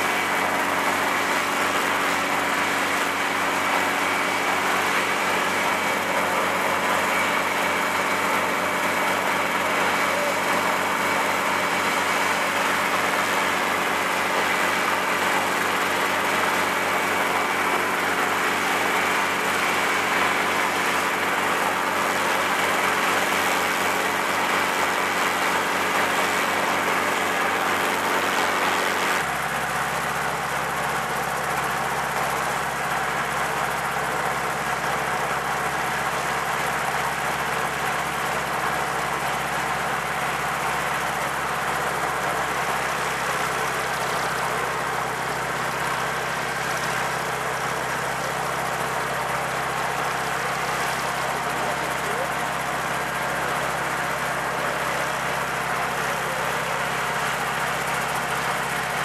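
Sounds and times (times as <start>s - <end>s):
helicopter engine and rotor running: 0.0s - 59.0s.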